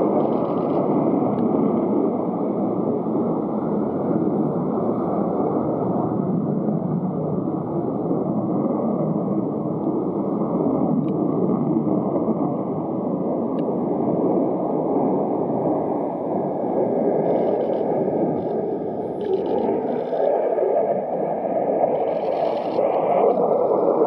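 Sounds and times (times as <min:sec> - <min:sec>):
fighter jet engine noise: 0:00.0 - 0:24.0.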